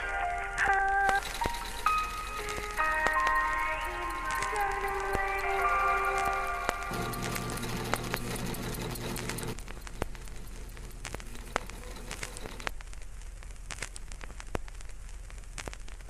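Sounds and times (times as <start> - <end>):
vinyl hiss and crackle: 0.0 - 16.0.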